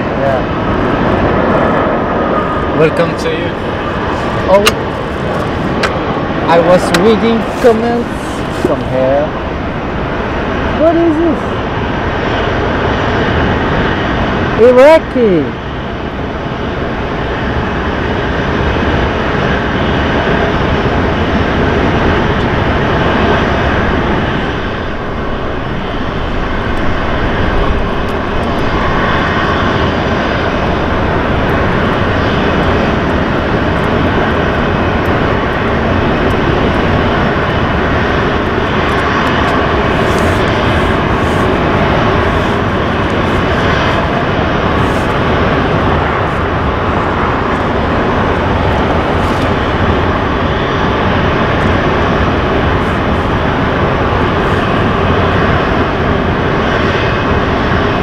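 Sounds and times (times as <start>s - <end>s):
jet engines running loud: 0.0s - 58.0s.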